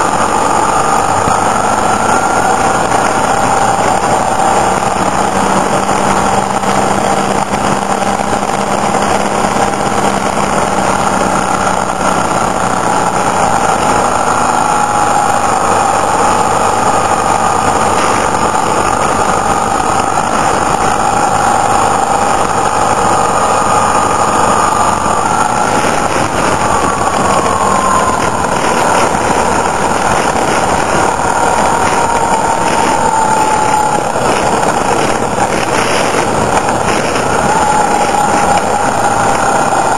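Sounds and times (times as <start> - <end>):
motorcycle engine running: 0.0 - 39.9
road noise: 0.0 - 39.9
wind rush: 0.0 - 39.9.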